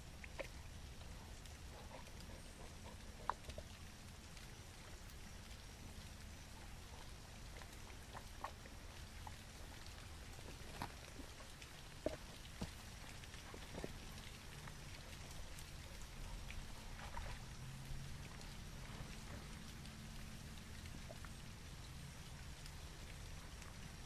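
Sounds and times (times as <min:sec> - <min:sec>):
faint low rumble: 0:00.0 - 0:24.0
raindrops ticking: 0:00.0 - 0:24.0.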